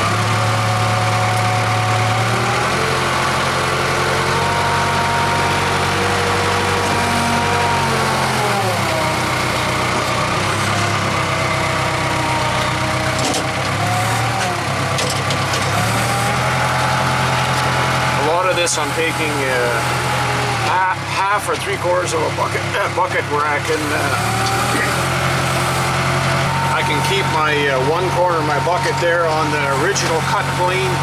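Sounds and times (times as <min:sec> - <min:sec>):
backhoe diesel engine running: 0:00.0 - 0:31.0.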